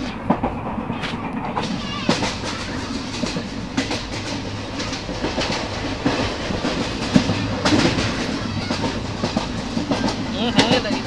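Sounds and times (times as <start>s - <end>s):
train rumbling: 0.0s - 11.0s
wheels clattering over rail joints: 0.0s - 11.0s.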